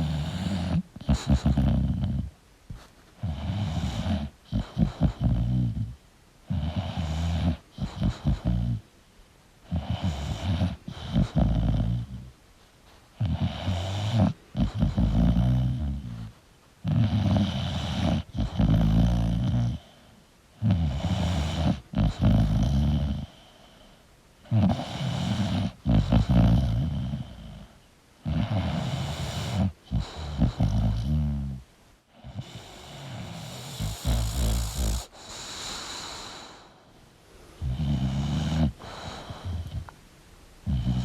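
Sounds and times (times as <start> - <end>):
dog snoring: 0.0 - 8.9, 9.6 - 12.3, 13.2 - 23.8, 24.4 - 36.9, 37.6 - 40.0, 40.6 - 41.0.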